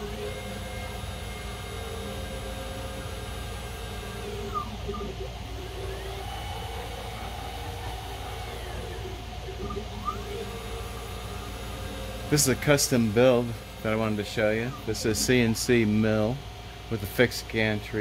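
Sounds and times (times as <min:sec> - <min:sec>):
cnc motors whining: 0:00.0 - 0:18.0.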